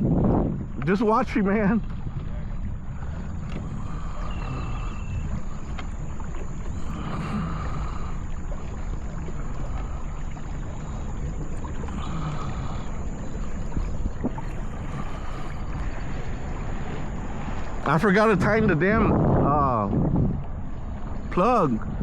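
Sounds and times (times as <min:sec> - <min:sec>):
rough water noise: 0:00.0 - 0:22.0
wind rumble: 0:00.0 - 0:22.0.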